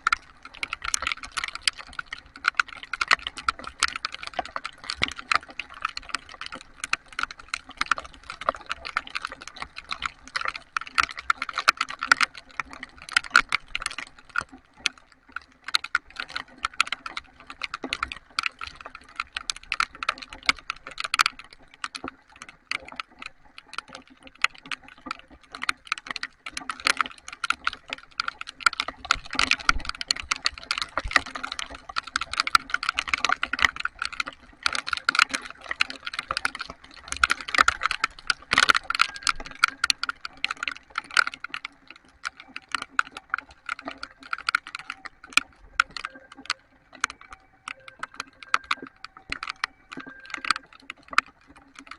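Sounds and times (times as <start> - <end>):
heavy rain drops ticking: 0.0 - 51.9.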